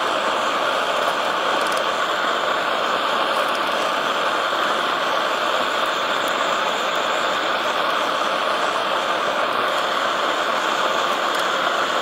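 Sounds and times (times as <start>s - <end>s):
blower fan rushing hum: 0.0s - 12.0s.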